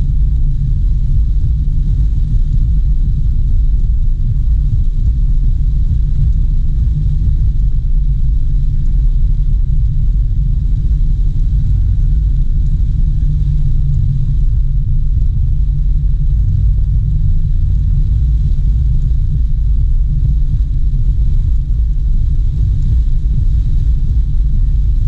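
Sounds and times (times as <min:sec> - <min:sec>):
car driving rumble: 0:00.0 - 0:25.0.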